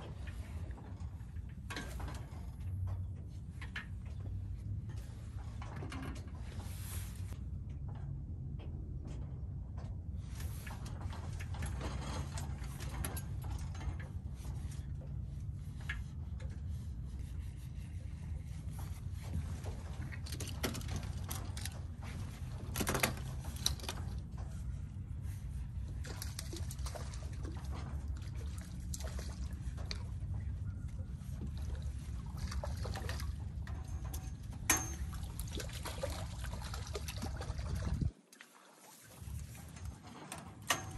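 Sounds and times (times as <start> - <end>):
low outdoor rumble: 0.0 - 38.2.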